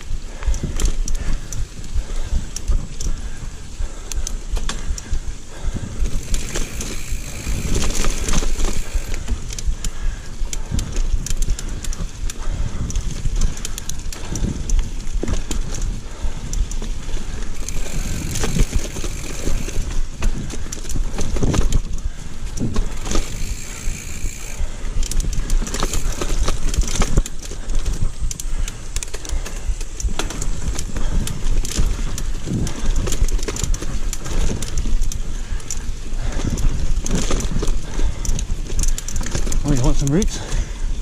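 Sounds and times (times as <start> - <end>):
bike chain and frame rattling: 0.0 - 41.0
bike tyres rolling on dirt trail: 0.0 - 41.0.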